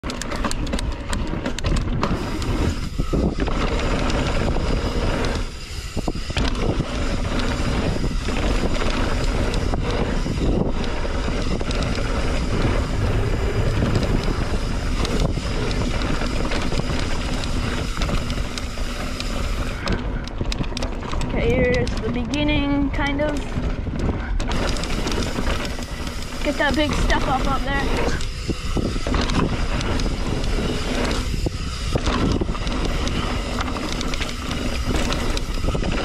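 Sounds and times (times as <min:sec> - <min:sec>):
bike rattling and ticking: 0:00.0 - 0:36.0
bike tyres on dirt: 0:00.0 - 0:36.0
wind noise on microphone: 0:00.0 - 0:36.0.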